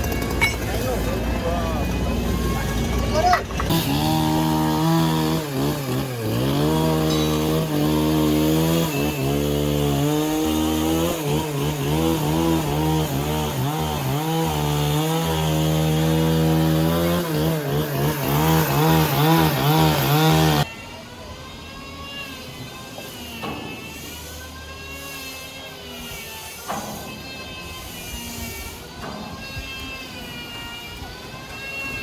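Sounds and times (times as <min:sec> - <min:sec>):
motor saw cutting log: 0:00.0 - 0:32.0.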